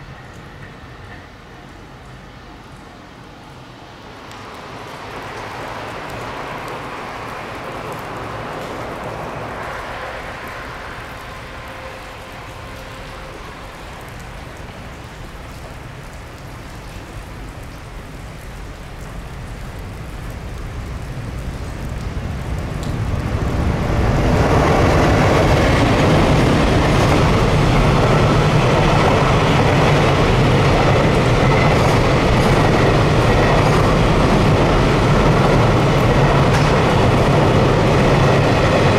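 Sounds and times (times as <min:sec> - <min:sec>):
freight train passing: 0:00.0 - 0:38.9.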